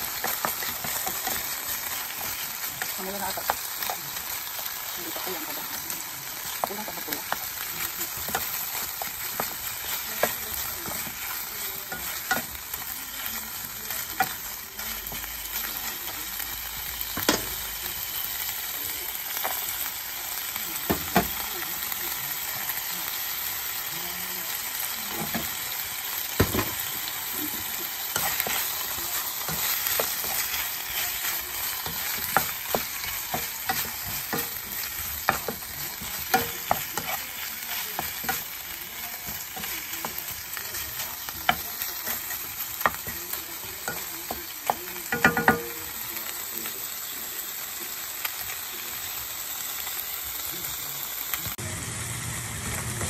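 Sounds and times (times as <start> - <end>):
meat sizzling in frying pan: 0.0 - 53.0.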